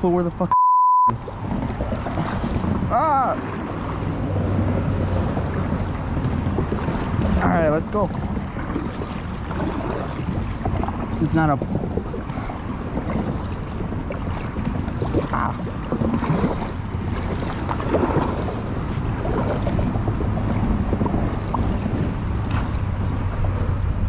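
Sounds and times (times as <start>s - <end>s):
wind rumbling on microphone: 1.1s - 24.0s
paddle splashing in water: 1.2s - 24.0s.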